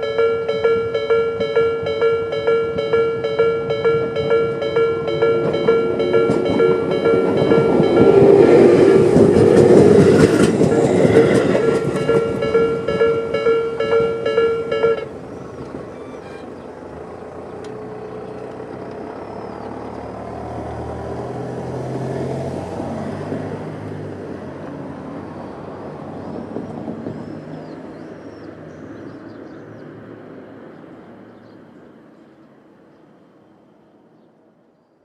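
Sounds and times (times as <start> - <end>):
vehicle engine hum: 0.0 - 31.4.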